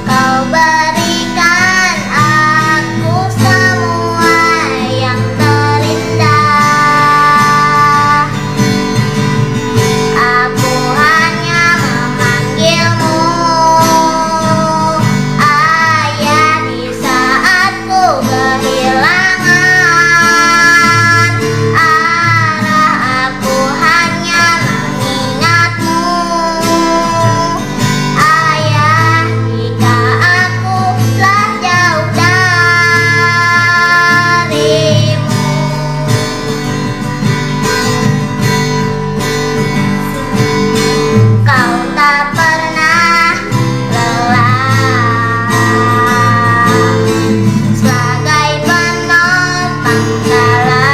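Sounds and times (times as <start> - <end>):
child singing a ballad: 0.0 - 50.9
karaoke backing track with guitar: 0.0 - 50.9.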